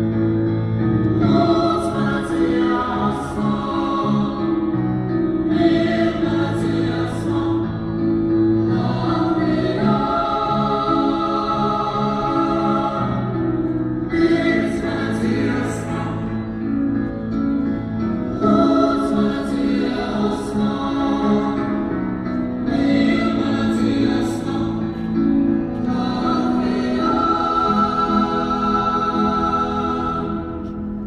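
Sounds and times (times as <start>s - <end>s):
choir singing long chords: 1.0s - 17.1s, 17.8s - 31.0s.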